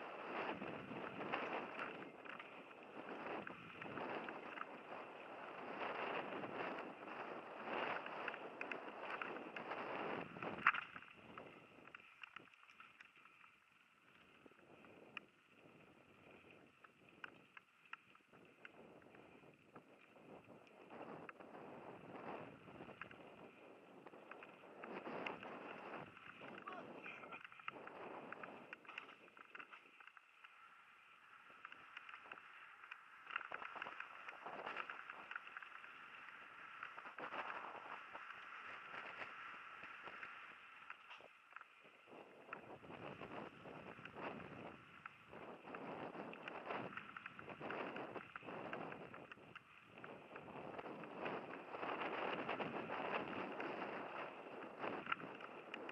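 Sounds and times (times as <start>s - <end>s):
bike clicking and rattling: 0.3s - 21.4s, 22.8s - 26.7s, 27.4s - 39.3s, 40.0s - 55.9s.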